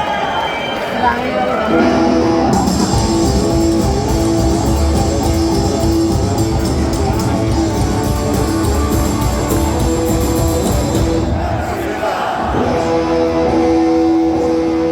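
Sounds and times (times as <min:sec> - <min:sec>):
rockabilly band playing: 0:01.6 - 0:11.4, 0:12.6 - 0:14.9.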